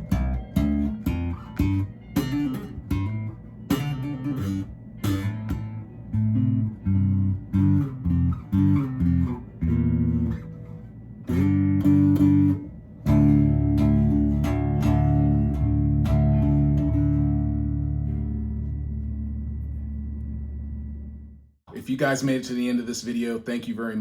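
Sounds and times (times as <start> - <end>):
electric bass guitar: 0.0 - 21.4.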